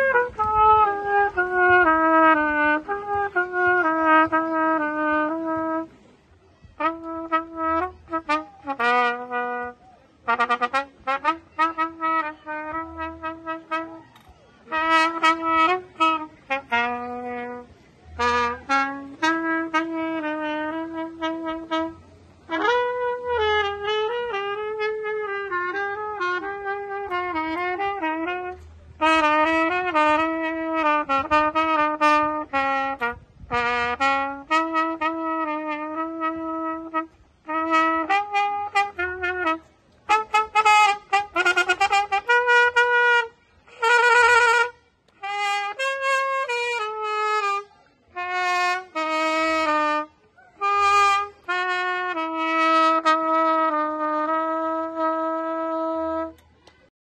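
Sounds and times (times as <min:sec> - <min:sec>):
solo trumpet melody: 0:00.0 - 0:56.7.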